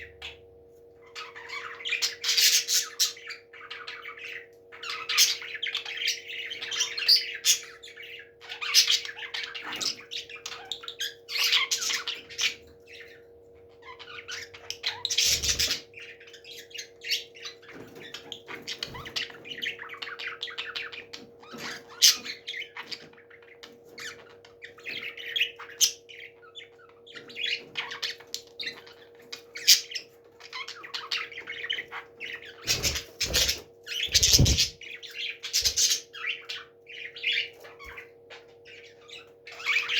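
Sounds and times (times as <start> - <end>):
parrots squawking and chirping: 1.0 - 39.9.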